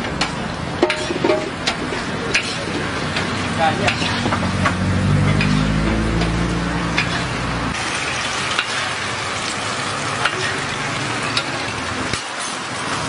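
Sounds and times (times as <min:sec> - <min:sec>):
egg sizzling on a griddle: 0:00.1 - 0:13.0.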